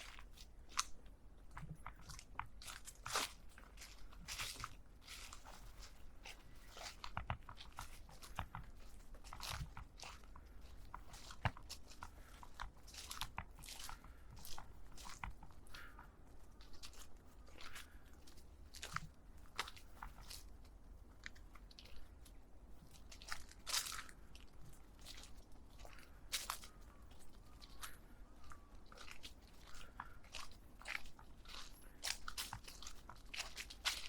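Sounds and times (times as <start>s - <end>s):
footsteps crunching on a path: 0.0s - 34.0s.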